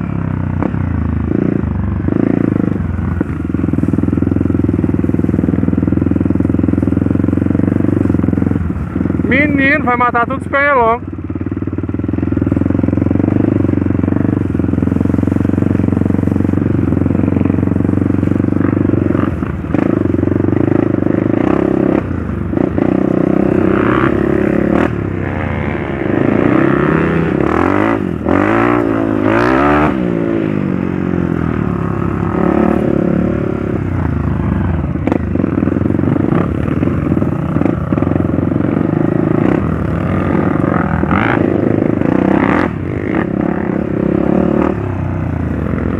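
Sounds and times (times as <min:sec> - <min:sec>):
motorcycle engine revving: 0:00.0 - 0:45.9
bike knocking and rattling: 0:00.2 - 0:29.8, 0:33.9 - 0:43.2.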